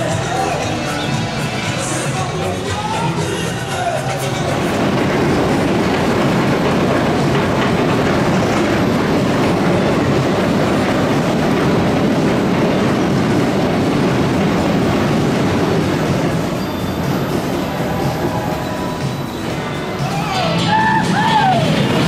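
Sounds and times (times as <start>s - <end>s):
roller coaster chain lift: 0.0s - 22.0s.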